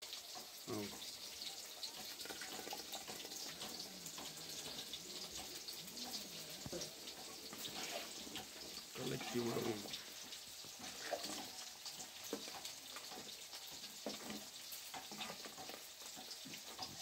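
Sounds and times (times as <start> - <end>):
liquid pouring and splashing in a pot: 0.0 - 17.0.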